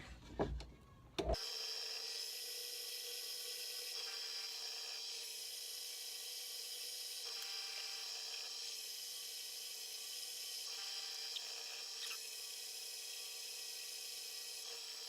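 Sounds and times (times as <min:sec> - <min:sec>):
drill press boring into wood: 0:01.4 - 0:15.0.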